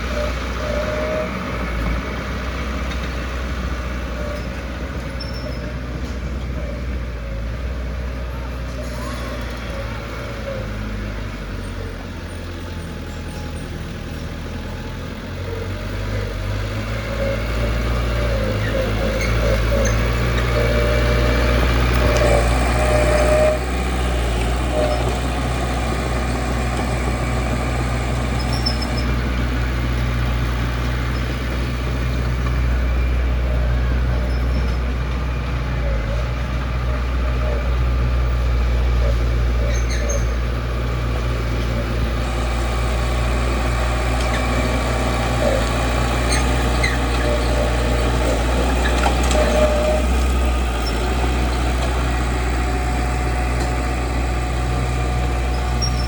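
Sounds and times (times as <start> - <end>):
heavy diesel engine humming: 0.0 - 56.0.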